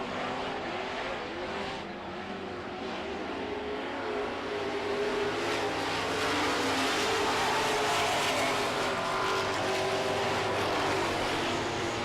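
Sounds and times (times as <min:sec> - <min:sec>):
race truck engines: 0:00.0 - 0:12.0.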